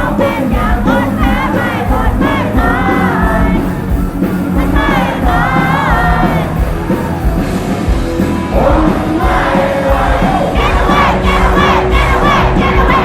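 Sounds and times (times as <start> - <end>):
person singing: 0.0 - 7.2, 8.4 - 13.0
crowd shouting and singing along: 0.0 - 13.0
live rock band playing: 0.0 - 13.0.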